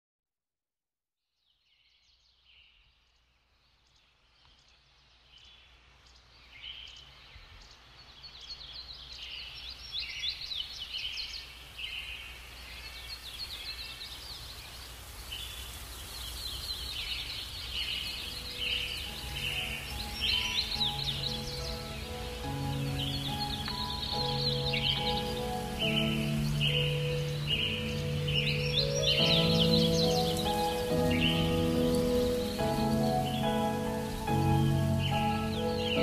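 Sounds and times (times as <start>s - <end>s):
birds chirping and twittering: 1.4s - 36.0s.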